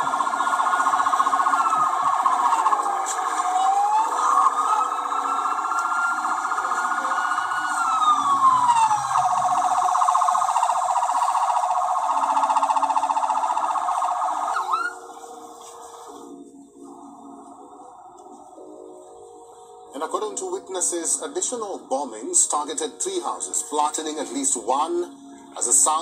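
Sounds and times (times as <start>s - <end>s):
ambulance siren wailing: 0.0s - 26.0s.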